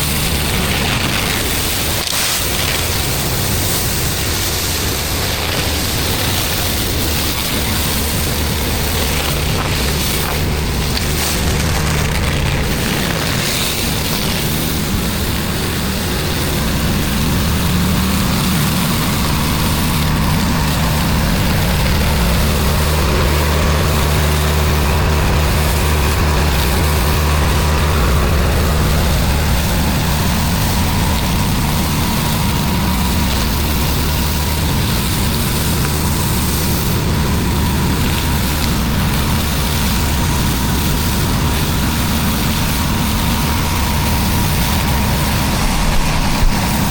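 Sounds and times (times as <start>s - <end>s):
high-pressure water spray hiss: 0.0s - 46.9s
pressure washer engine running: 0.0s - 46.9s.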